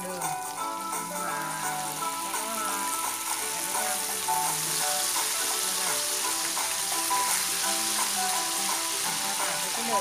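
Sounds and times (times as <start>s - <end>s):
background music: 0.0s - 10.0s
garlic sizzling in hot oil: 0.0s - 10.0s.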